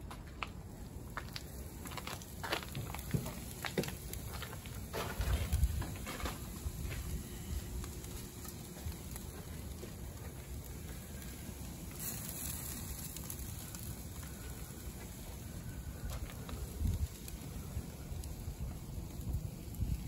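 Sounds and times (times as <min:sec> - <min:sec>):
grill crackles: 0:00.0 - 0:20.0
low steady rumble: 0:00.0 - 0:20.0
meat sizzling on a grill: 0:01.4 - 0:20.0.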